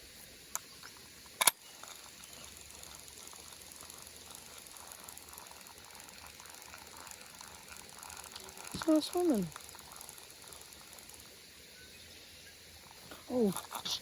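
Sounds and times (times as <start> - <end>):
fishing reel click: 0.4 - 11.9
fishing reel cranking: 0.4 - 14.0.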